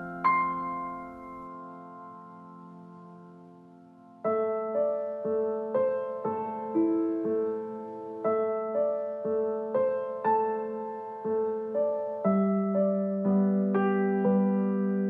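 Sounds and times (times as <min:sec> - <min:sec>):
slow keyboard melody: 0:00.0 - 0:15.0.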